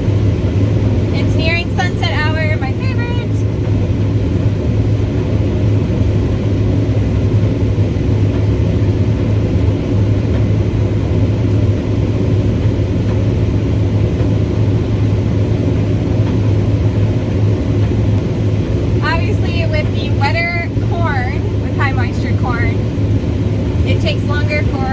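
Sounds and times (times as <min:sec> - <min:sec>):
diesel engine droning: 0:00.0 - 0:24.9.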